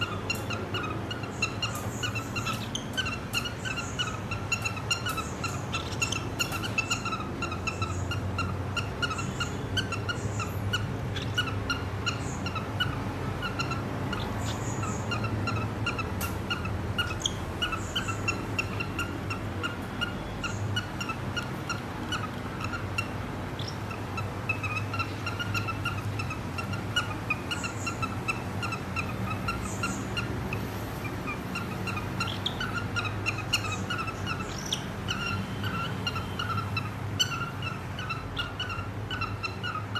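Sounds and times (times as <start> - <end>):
cockatiels chirping and warbling: 0.0 - 39.9.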